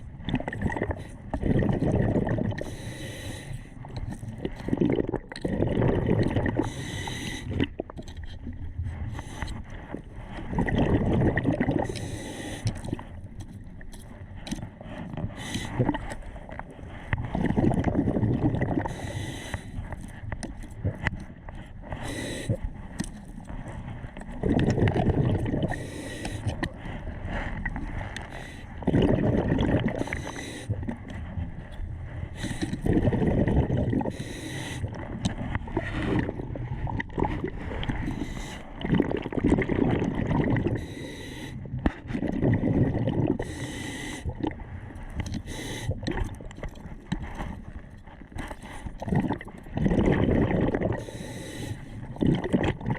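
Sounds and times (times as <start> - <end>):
low gurgling rush: 0.0 - 52.9
diver breathing underwater: 0.6 - 52.9.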